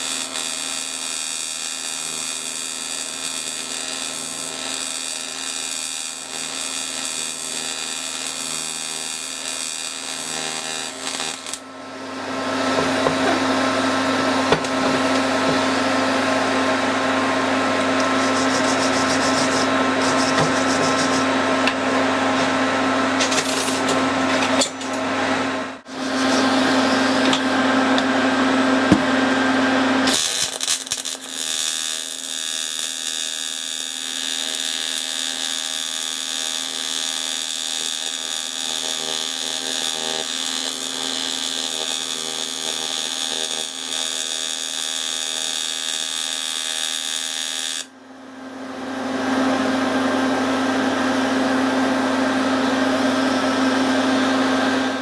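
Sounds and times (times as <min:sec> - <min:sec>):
welding arc buzzing: 0:00.0 - 0:24.3, 0:25.8 - 0:47.9.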